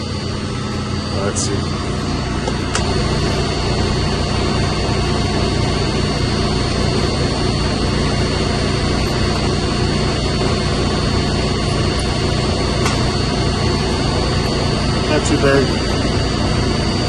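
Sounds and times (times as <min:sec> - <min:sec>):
high whine: 0:00.0 - 0:17.0
machinery drone: 0:00.0 - 0:17.0.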